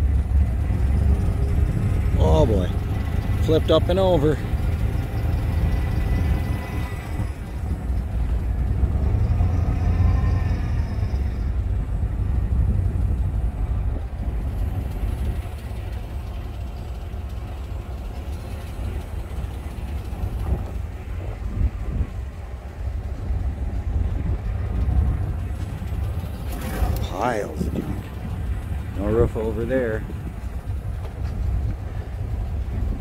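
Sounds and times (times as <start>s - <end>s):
vehicle engine and road rumble: 0.0s - 33.0s.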